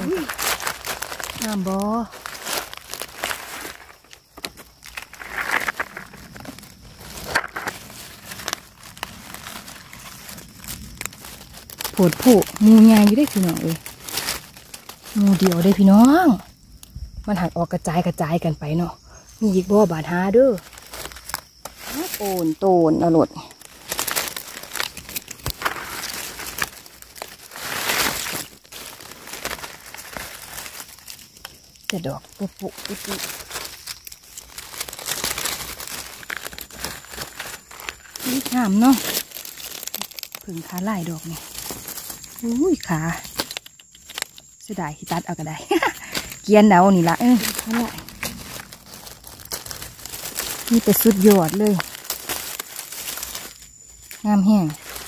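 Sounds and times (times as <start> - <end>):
dry leaves rustling and crackling: 0.0 - 55.0.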